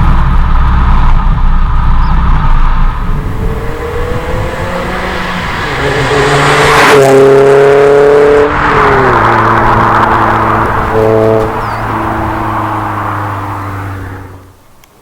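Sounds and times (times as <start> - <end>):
car engine accelerating: 0.0 - 14.9.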